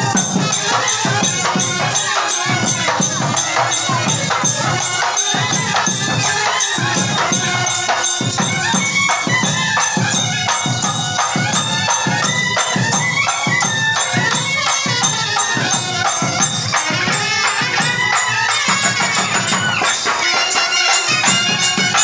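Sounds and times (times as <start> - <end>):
steady drumbeat: 0.0 - 22.0.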